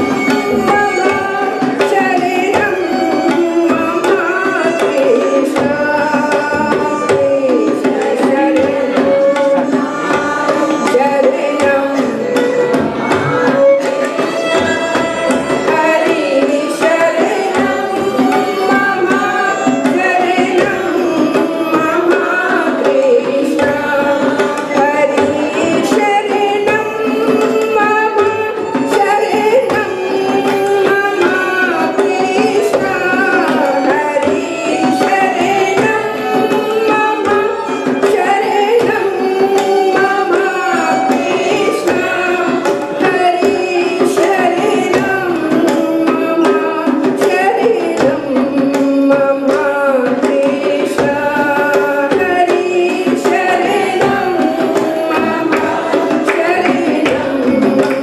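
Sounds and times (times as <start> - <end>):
group singing devotional song: 0.0 - 58.0
tabla playing: 0.0 - 58.0.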